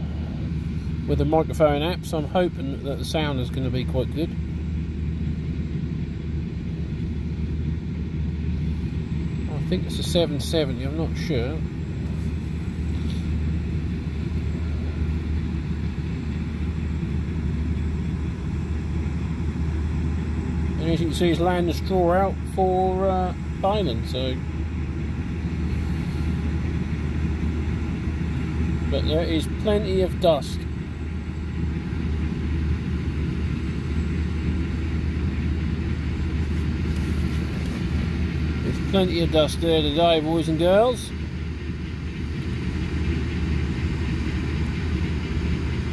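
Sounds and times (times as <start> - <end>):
distant combine harvester drone: 0.0 - 45.9.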